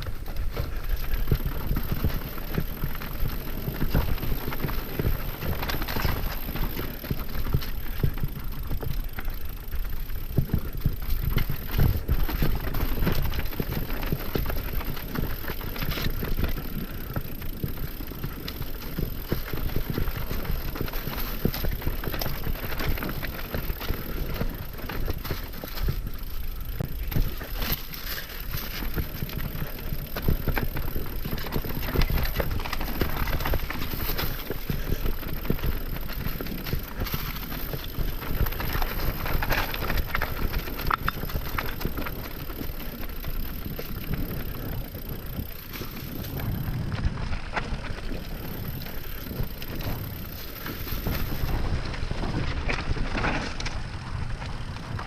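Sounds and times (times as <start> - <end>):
bike clattering over bumps: 0.0 - 55.0
bike tyres on dirt: 0.0 - 55.0.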